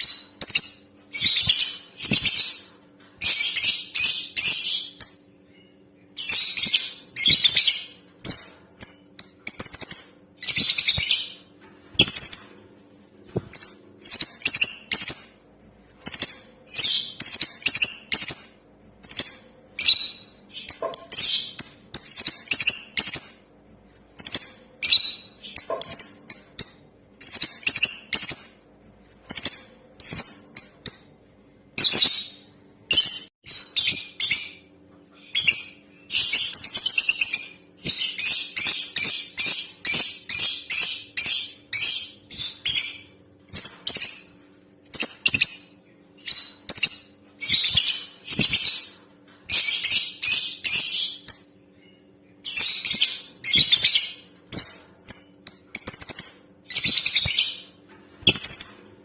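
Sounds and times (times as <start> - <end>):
lovebird chirping: 0.0 - 12.7, 13.5 - 23.6, 24.2 - 28.7, 29.3 - 59.0.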